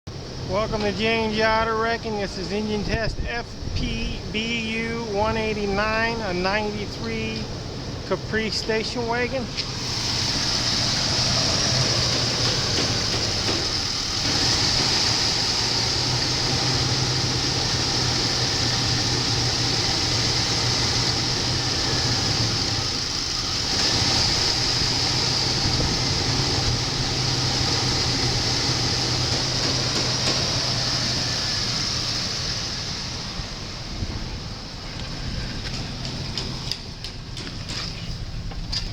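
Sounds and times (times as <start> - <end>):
engine idling: 0.1 - 38.9.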